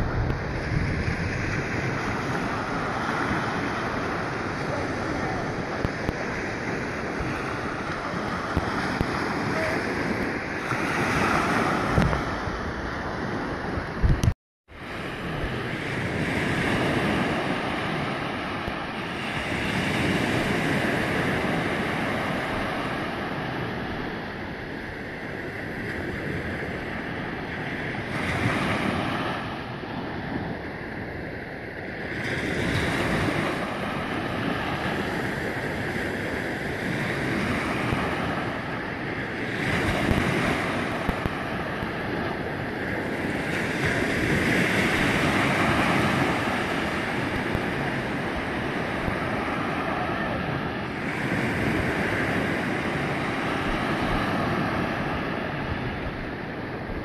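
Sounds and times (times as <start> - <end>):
small waves breaking in surf: 0.0 - 57.0.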